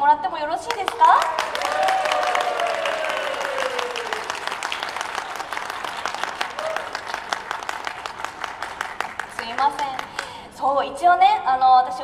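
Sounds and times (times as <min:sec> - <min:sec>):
audience applauding: 0:00.7 - 0:10.4.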